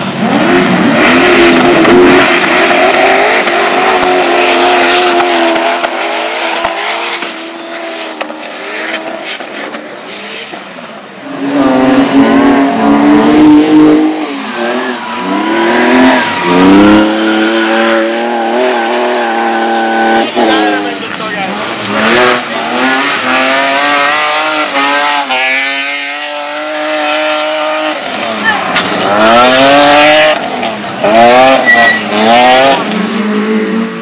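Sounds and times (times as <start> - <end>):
racing engines revving: 0.0 - 34.0.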